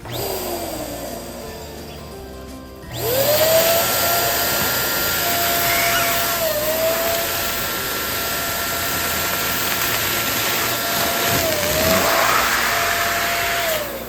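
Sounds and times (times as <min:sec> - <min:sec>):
electric balloon pump motor: 0:00.0 - 0:14.0.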